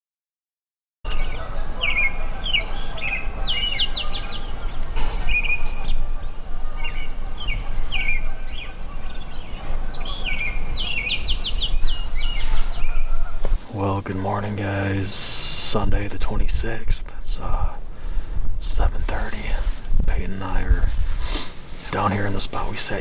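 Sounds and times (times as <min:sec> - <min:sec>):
songbirds singing: 0:01.1 - 0:23.0
steady low rumble: 0:01.2 - 0:23.0.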